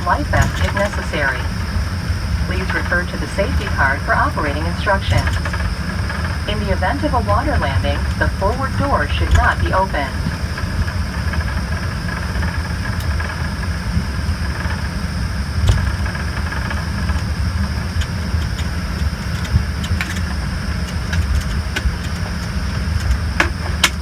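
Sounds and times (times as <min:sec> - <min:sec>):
jet engines idling: 0:00.0 - 0:24.0.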